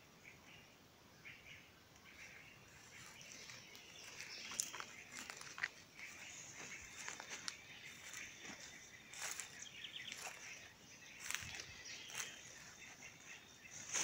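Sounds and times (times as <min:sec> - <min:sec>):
footsteps through dry grass: 0:02.1 - 0:14.0.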